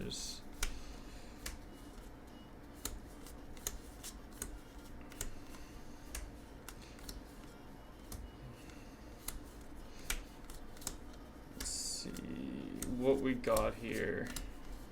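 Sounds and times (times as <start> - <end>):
soft card rustle: 0.4 - 14.9
cards clicking and snapping: 0.5 - 2.1, 2.7 - 14.9.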